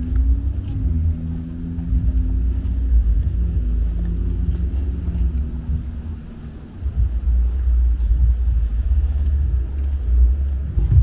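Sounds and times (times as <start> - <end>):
motor vehicle engine rumbling: 0.0 - 11.0.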